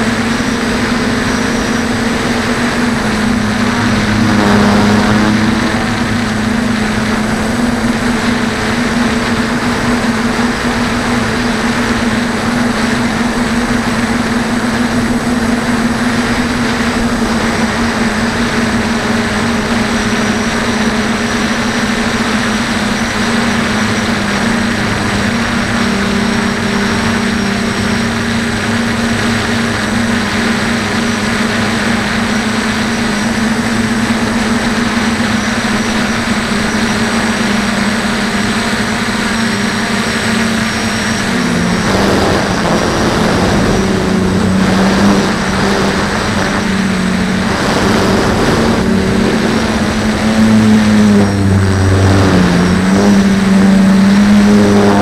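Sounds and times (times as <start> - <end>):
drone motors buzzing: 0.0 - 55.0.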